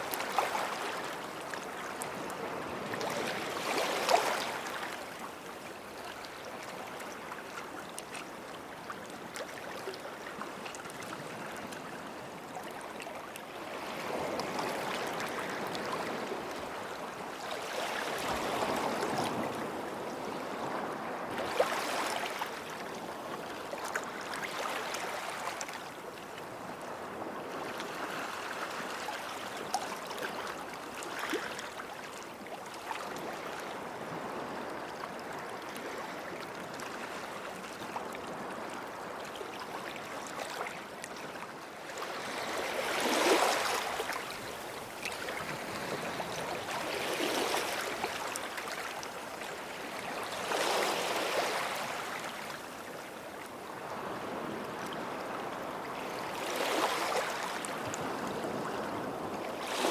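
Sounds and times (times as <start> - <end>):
small waves washing on sand: 0.0 - 59.9.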